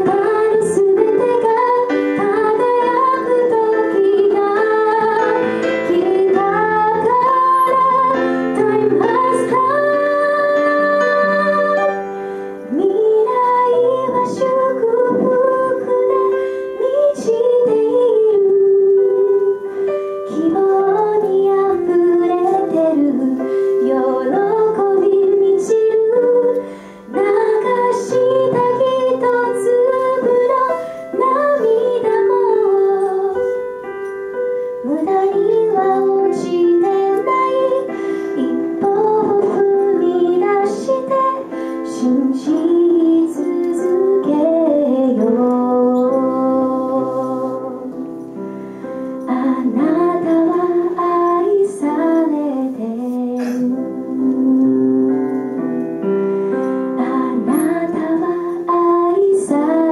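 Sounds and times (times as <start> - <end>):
keyboard accompaniment: 0.0 - 59.9.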